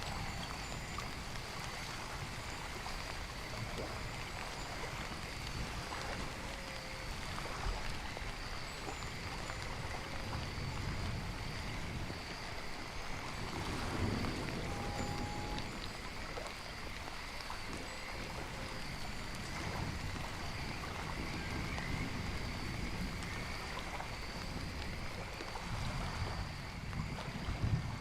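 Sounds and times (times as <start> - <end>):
steady rain and running water: 0.0 - 28.0.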